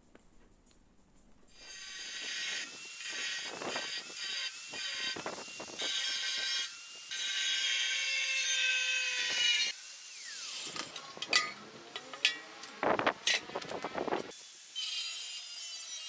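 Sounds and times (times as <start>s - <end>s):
angle grinder cutting steel: 1.6s - 16.0s.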